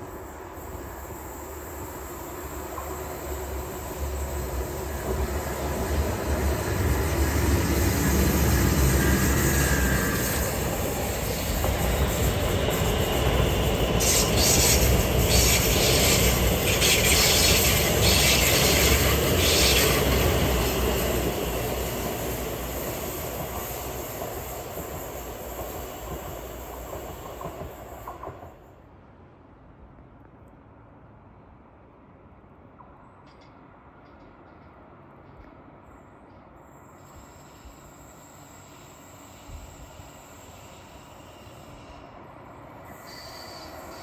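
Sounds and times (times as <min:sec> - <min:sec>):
train wheels squealing: 0:00.0 - 0:28.8, 0:35.2 - 0:44.0
trains rumbling past on rails: 0:00.0 - 0:44.0.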